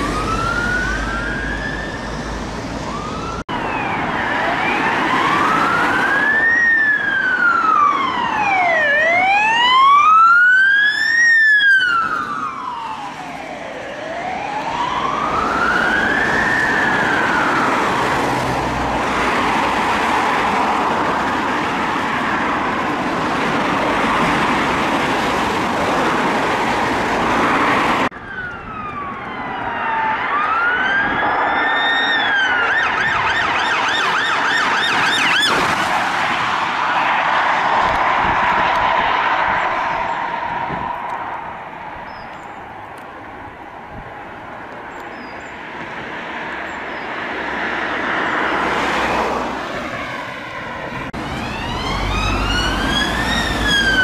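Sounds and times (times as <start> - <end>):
ambulance siren wailing: 0.0 - 42.0, 47.7 - 54.0
other sirens: 0.0 - 54.0
road traffic: 0.0 - 54.0.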